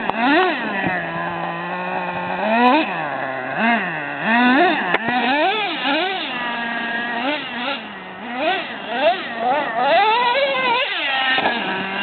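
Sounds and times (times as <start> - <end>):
nitro engine revving: 0.0 - 12.0.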